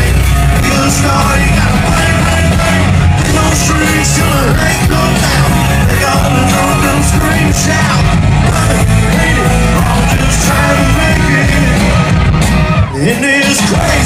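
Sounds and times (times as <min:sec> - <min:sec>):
live rock band playing: 0:00.0 - 0:14.0
shouted vocals: 0:00.0 - 0:14.0.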